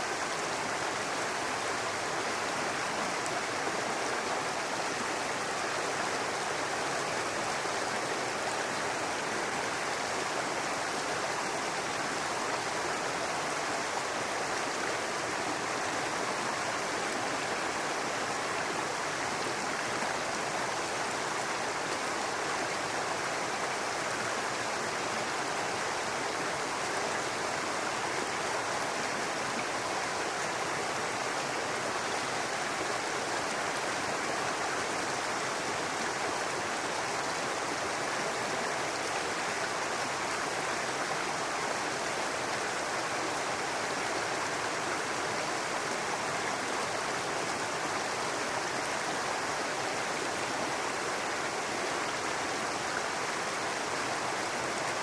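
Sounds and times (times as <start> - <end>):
brook babbling over stones: 0.0 - 55.0.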